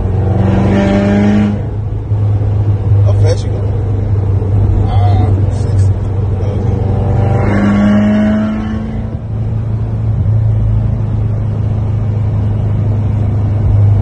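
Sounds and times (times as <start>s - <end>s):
car engine droning in cabin: 0.0s - 14.0s.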